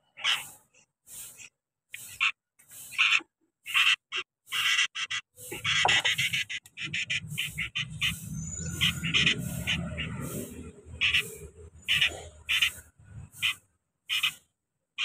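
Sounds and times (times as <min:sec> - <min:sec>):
nestlings raspy begging chirps: 0:00.0 - 0:15.0.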